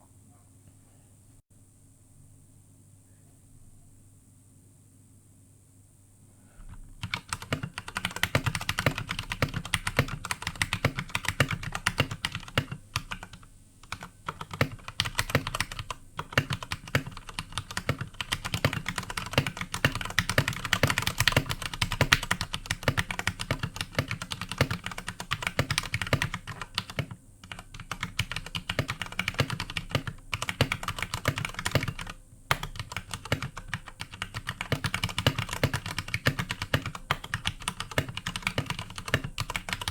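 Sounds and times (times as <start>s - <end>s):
fast mechanical keyboard typing: 6.7s - 39.9s.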